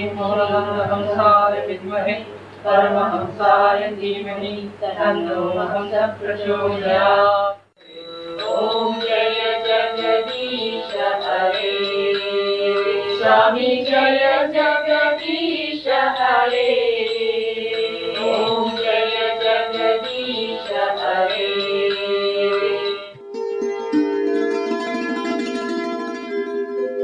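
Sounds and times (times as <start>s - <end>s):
person chanting devotional song: 0.0s - 23.1s.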